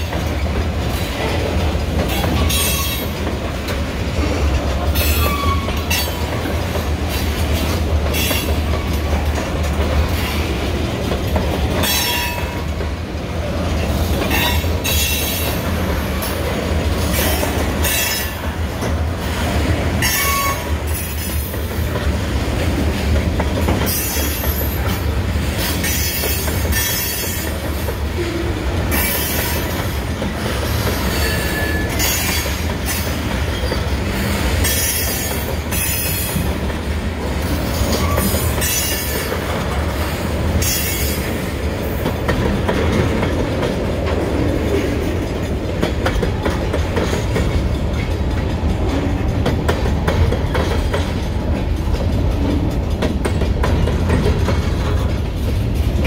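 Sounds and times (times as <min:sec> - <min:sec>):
steel wheels rumbling on rail: 0:00.0 - 0:56.0
wheels clicking over rail joints: 0:00.0 - 0:56.0.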